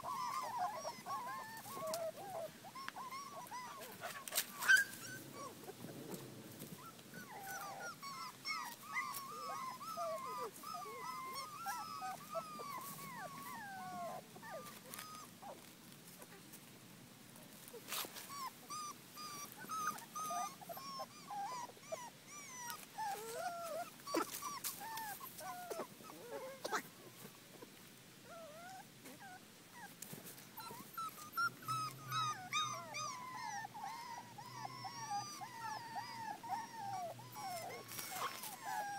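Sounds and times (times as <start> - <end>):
puppies whining: 0.0 - 5.9, 6.7 - 15.7, 17.7 - 27.3, 28.3 - 38.9.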